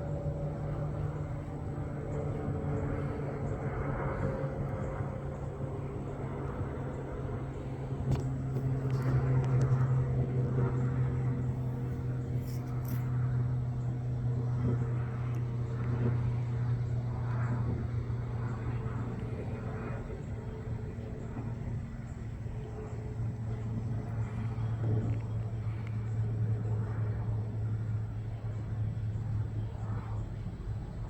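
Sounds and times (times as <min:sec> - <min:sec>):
distant turboprop plane drone: 0:00.0 - 0:31.0.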